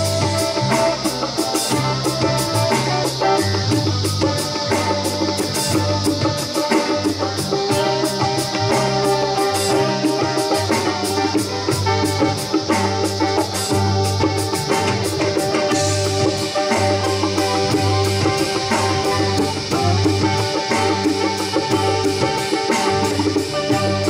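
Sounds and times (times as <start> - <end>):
bass line: 0.0 - 24.0
drum kit beat: 0.0 - 24.0
guitar: 0.0 - 24.0.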